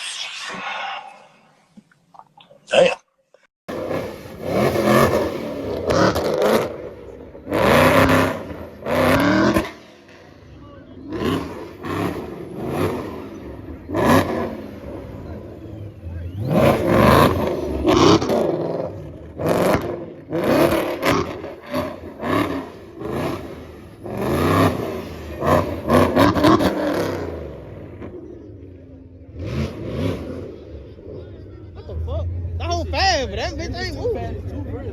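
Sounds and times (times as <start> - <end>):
car engines revving: 3.7 - 34.9.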